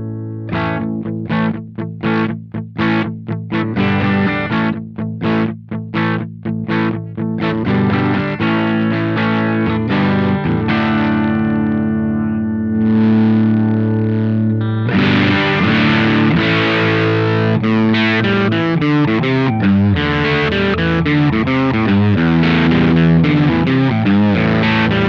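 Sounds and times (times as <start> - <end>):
distorted electric guitar chords: 0.0 - 25.0.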